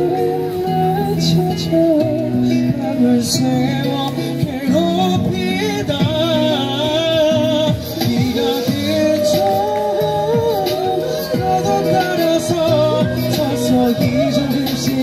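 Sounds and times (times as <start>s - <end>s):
person singing: 0.0s - 15.0s
pop ballad over pa speaker: 0.0s - 15.0s.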